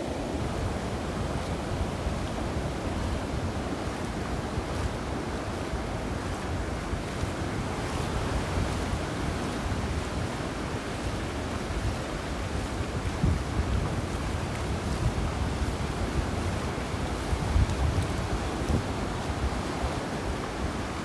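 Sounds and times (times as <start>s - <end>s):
sea surf washing on sand: 0.0s - 21.0s
wind rumbling on microphone: 0.0s - 21.0s.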